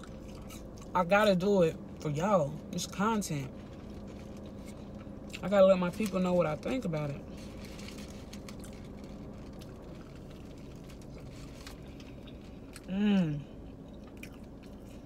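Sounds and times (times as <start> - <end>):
person chewing crispy food: 0.0 - 1.0, 3.4 - 15.0
closed-mouth hum: 0.0 - 15.0.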